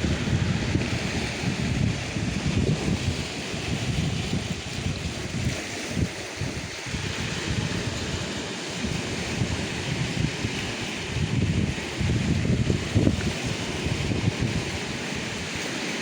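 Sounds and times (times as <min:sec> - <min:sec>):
sea waves washing: 0:00.0 - 0:16.0
wind gusting on microphone: 0:00.0 - 0:16.0.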